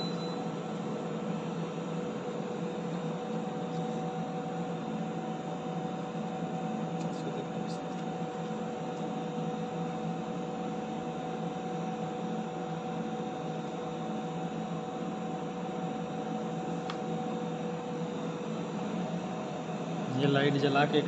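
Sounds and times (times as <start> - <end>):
lab equipment humming: 0.0 - 21.0.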